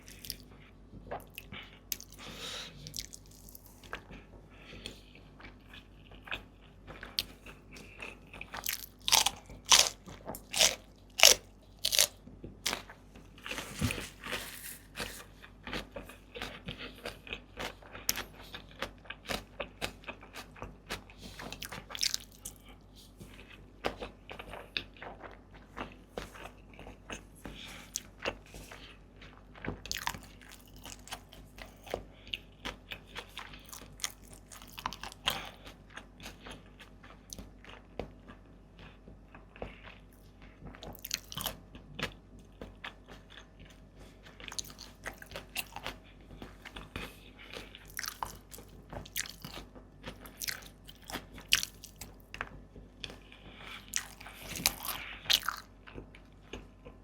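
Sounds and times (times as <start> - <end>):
person chewing and crunching: 0.0 - 57.0.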